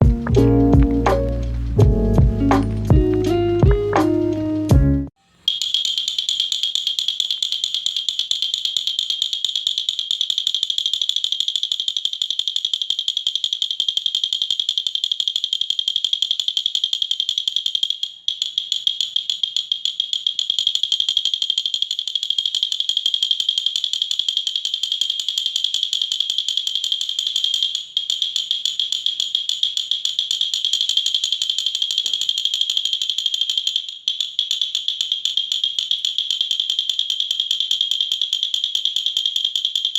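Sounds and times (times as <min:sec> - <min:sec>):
wooden baby rattle clattering: 0:05.5 - 0:39.9.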